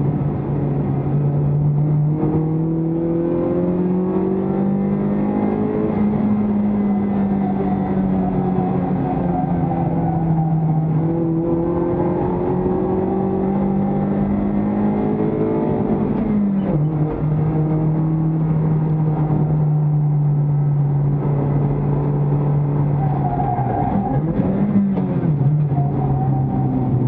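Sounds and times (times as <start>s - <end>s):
race car engine revving: 0.1s - 27.0s.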